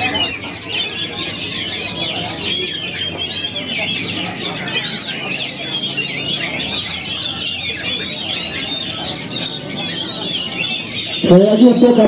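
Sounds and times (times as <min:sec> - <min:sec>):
low background murmur: 0:00.0 - 0:12.0
magpie-robin singing: 0:00.0 - 0:12.0
songbirds chirping and whistling: 0:00.0 - 0:12.0.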